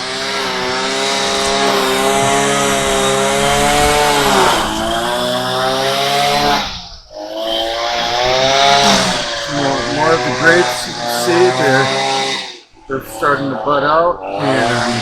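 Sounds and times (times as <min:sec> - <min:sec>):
string trimmer engine running: 0:00.0 - 0:12.6, 0:14.2 - 0:15.0.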